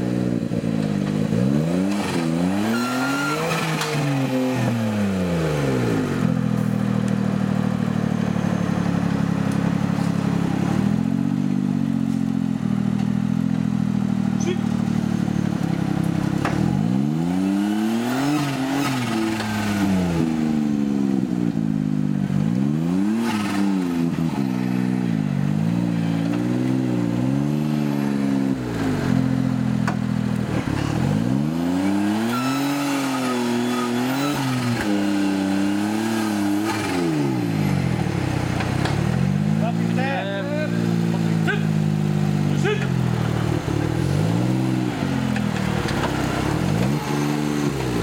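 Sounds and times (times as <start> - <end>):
truck engine revving and idling: 0.0 - 48.0.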